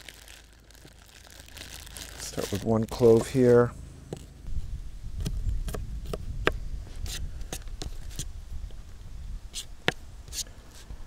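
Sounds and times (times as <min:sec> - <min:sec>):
low steady rumble: 0:00.0 - 0:10.3.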